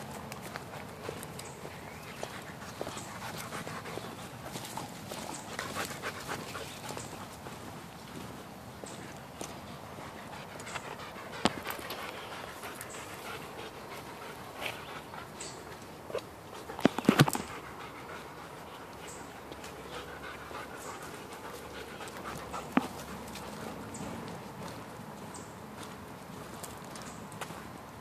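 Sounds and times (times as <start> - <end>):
dog panting: 0.1 - 26.7.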